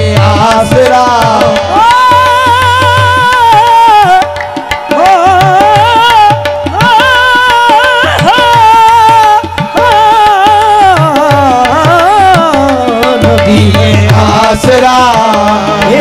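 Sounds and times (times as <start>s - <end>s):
lead voice singing: 0.0s - 4.3s, 4.9s - 16.0s
harmonium: 0.0s - 16.0s
tabla strokes: 0.0s - 16.0s.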